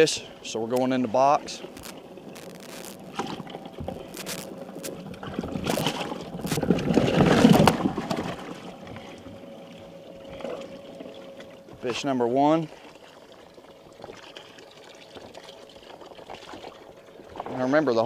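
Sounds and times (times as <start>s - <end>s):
water splashing and sloshing: 1.4s - 18.0s.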